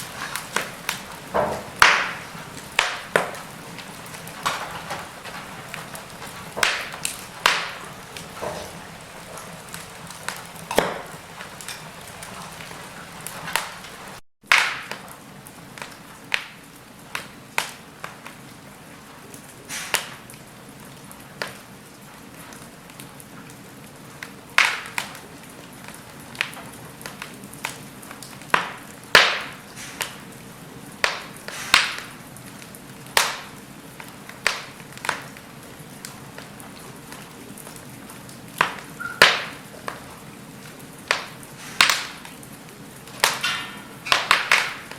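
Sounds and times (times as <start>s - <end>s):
soft steady fire hiss: 0.0s - 44.9s
wood fire crackling and popping: 0.0s - 44.9s.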